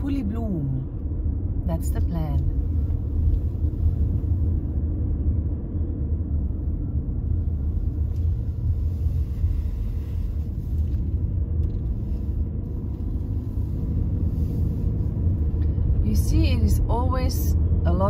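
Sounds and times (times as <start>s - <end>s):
car engine: 0.0s - 18.0s
road noise: 0.0s - 18.0s.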